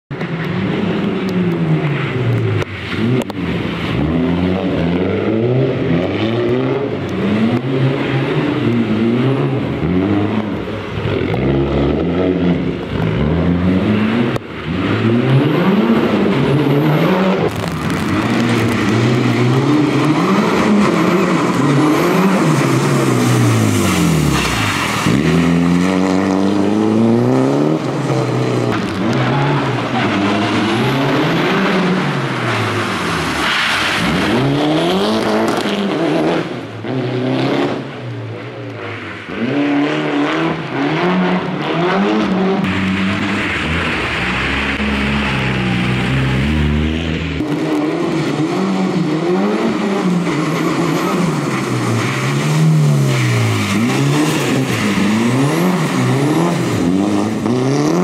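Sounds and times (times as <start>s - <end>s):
rally car engine revving hard: 0.2s - 58.0s.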